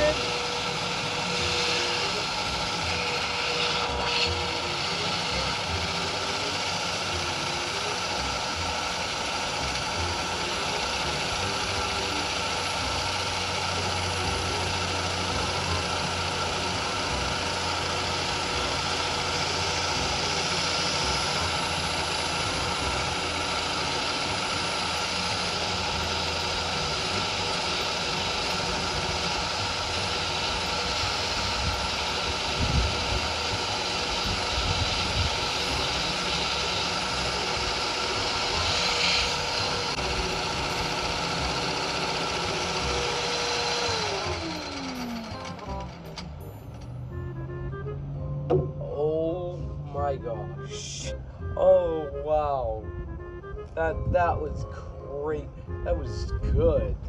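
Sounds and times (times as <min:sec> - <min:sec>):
small engine mechanical clatter: 0:00.0 - 0:47.3.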